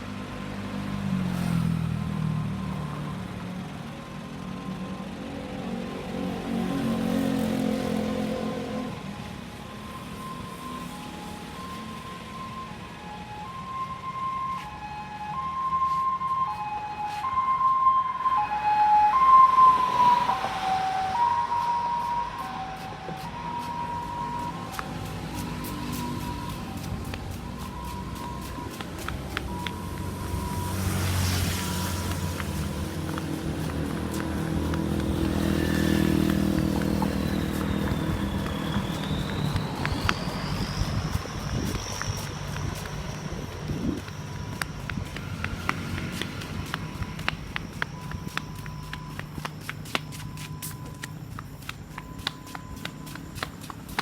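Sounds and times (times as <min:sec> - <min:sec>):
road noise: 0:00.0 - 0:54.0
vehicle engine passing: 0:00.1 - 0:54.0
ambulance siren hi-lo: 0:00.8 - 0:54.0.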